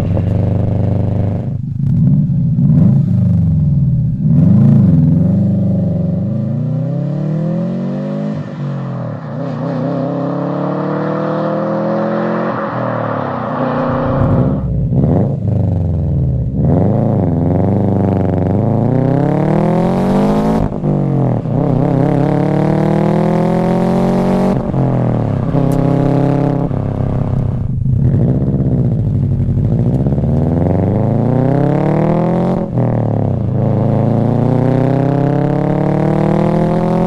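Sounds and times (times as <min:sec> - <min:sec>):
exhaust note dropping at gear changes: 0:00.0 - 0:08.3, 0:09.8 - 0:37.0
car engine accelerating hard: 0:00.0 - 0:37.0.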